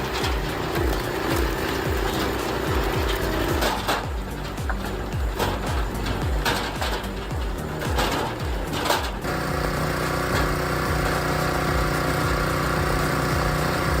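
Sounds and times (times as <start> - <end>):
machinery rhythmic knocking: 0.0 - 14.0
steady engine running: 0.0 - 14.0.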